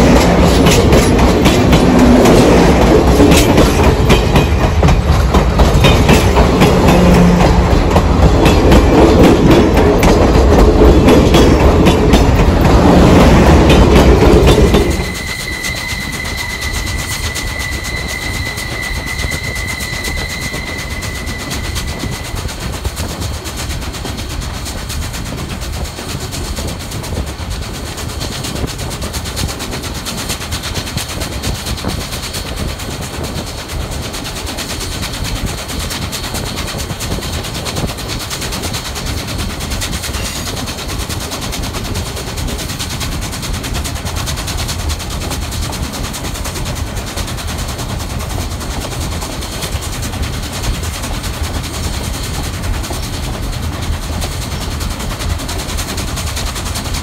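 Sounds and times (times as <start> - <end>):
steam train running gear: 0.0 - 57.0
wind rushing: 0.0 - 57.0.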